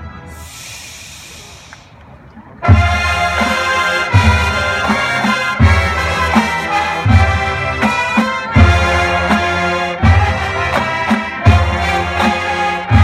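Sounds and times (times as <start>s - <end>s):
marching band brass chords: 1.4s - 13.0s.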